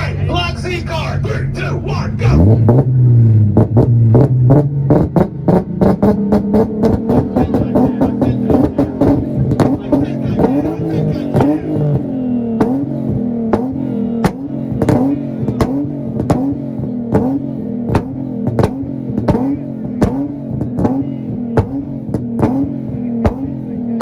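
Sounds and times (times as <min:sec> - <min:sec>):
car engine on launch limiter: 0:00.0 - 0:24.0
exhaust pops and bangs: 0:02.5 - 0:24.0.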